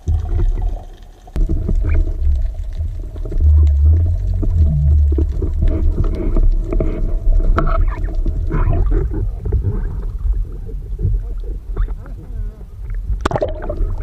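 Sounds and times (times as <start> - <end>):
underwater clicks and knocks: 0.0 - 14.0
underwater rumble of water: 0.0 - 14.0.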